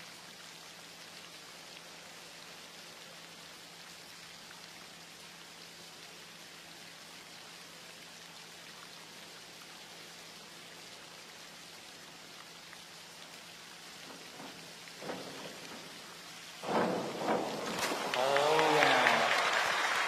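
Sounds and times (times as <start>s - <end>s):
hiss of falling water: 0.0s - 20.0s.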